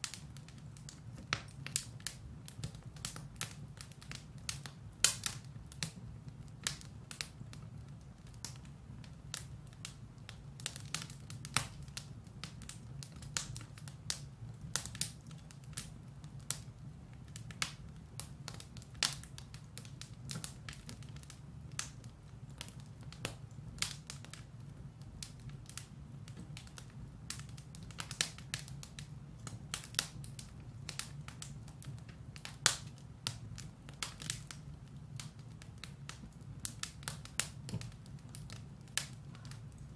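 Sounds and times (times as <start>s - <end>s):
firewood crackling and popping: 0.0s - 39.9s
low rumble of fire: 0.0s - 39.9s.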